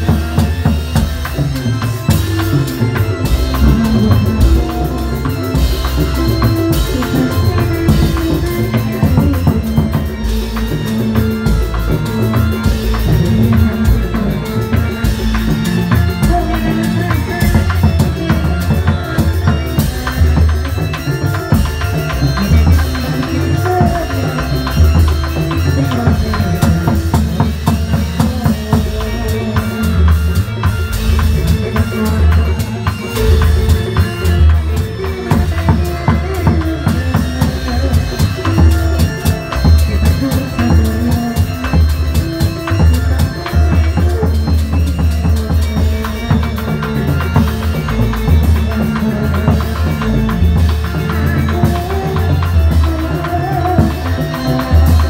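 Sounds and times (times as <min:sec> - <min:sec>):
heavy bass drum beats: 0:00.0 - 0:55.0
steady drumming: 0:00.0 - 0:55.0
sustained melodic tones: 0:00.0 - 0:55.0.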